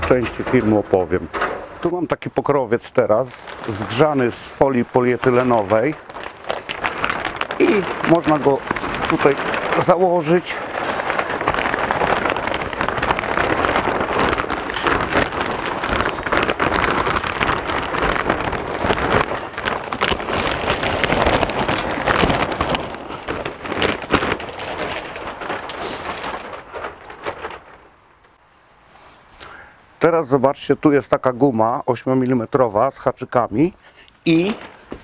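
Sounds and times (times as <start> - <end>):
plastic film crackling and rustling: 0.0 - 28.4, 30.3 - 35.0.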